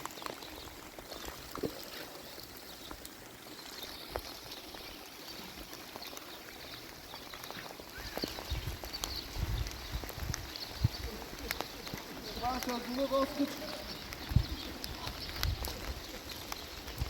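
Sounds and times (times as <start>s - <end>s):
small taps and drips: 0.0s - 17.0s
steady rain: 0.0s - 17.0s.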